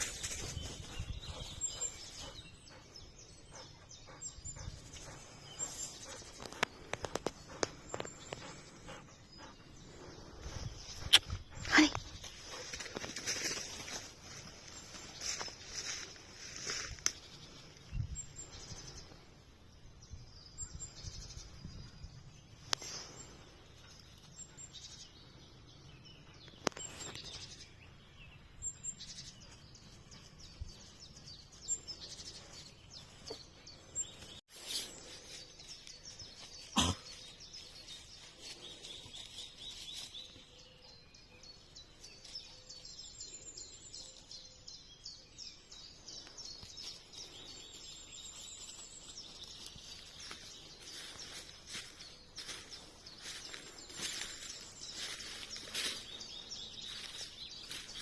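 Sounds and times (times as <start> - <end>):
birds chirping: 0.0 - 58.0
faint outdoor background noise: 0.0 - 58.0.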